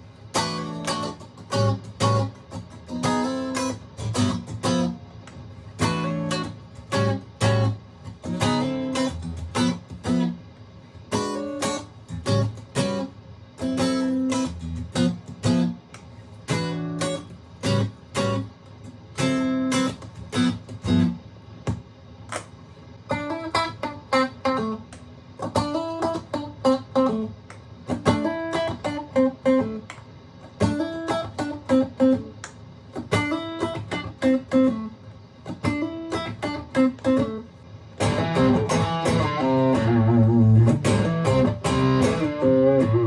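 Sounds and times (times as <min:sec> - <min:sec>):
electric guitar playing: 0:00.3 - 0:10.4, 0:11.0 - 0:18.5, 0:19.1 - 0:21.2, 0:23.1 - 0:43.0.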